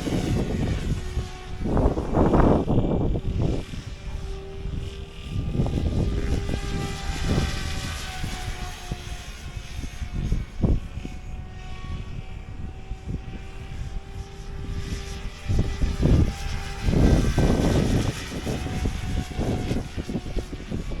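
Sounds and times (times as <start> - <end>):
low rumbling gusts: 0.0 - 21.0
rc helicopter rotor whine: 0.0 - 21.0.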